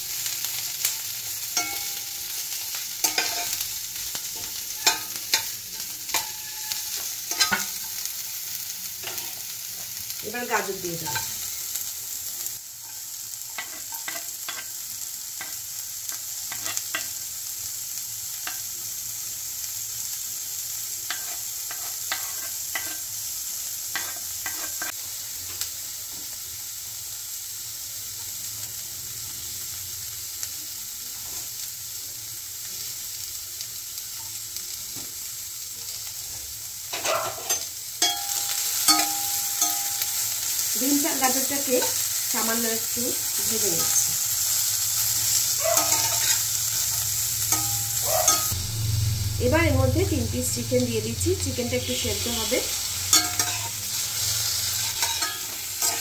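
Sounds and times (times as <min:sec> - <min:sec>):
vegetables sizzling in a frying pan: 0:00.0 - 0:56.0.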